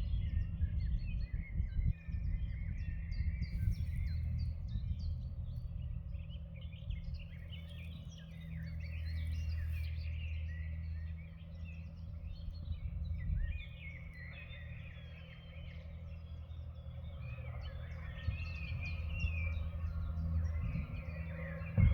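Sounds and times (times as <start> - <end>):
songbirds chirping and whistling: 0.0 - 21.9
steady low rumble: 0.0 - 21.9.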